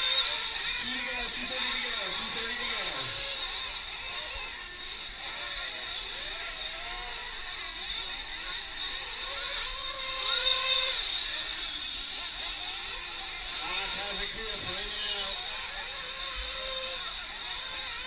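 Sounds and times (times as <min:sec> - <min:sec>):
model truck engines whining: 0:00.0 - 0:18.0.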